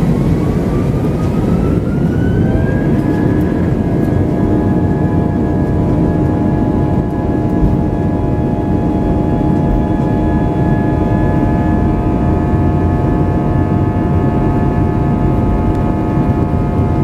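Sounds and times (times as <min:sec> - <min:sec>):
jet engines heard from cabin: 0:00.0 - 0:17.0.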